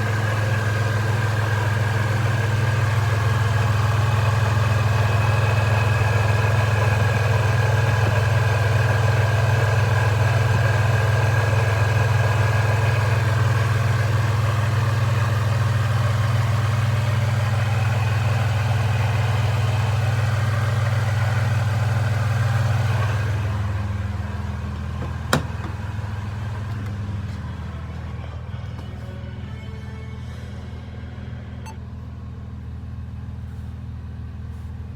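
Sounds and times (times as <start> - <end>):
car engine idling: 0.0 - 29.7.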